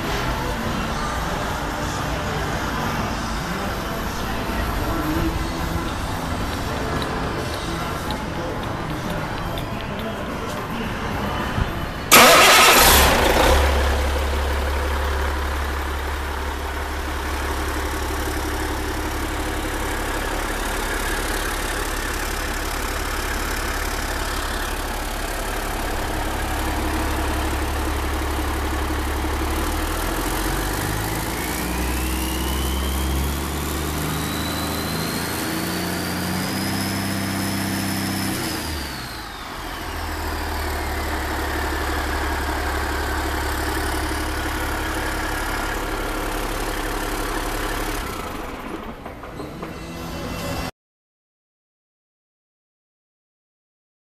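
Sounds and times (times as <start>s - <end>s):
diesel engine idling and revving: 0.0s - 50.7s.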